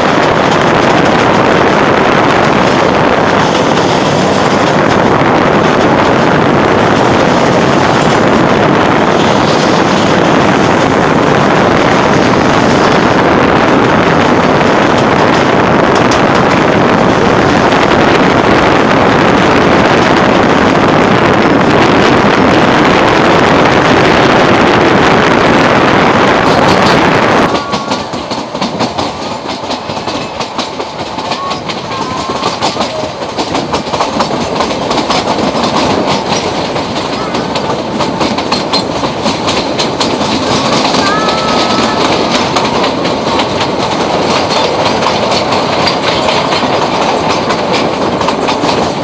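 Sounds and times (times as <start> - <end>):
train running noise: 0.0 - 49.0
wind buffeting microphone: 0.0 - 49.0.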